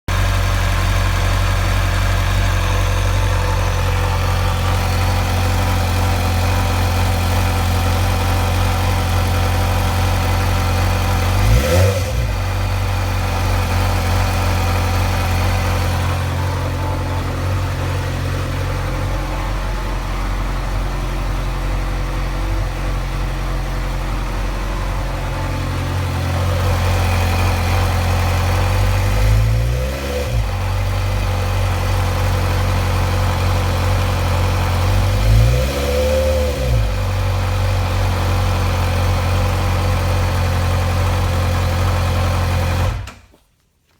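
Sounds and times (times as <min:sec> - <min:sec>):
engine rattle: 0:00.1 - 0:43.4
motorcycle engine idling and revving: 0:00.1 - 0:43.4.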